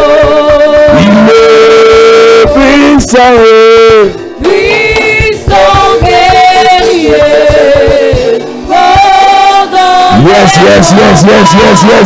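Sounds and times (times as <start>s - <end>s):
congregation singing worship song: 0.0s - 12.0s
steady drum beat: 0.0s - 12.0s.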